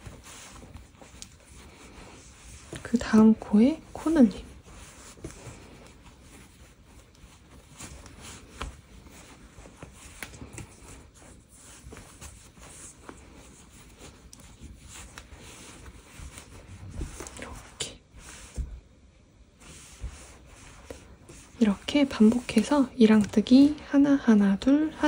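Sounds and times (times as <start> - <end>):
yarn rustling and rubbing: 0.0 - 25.0.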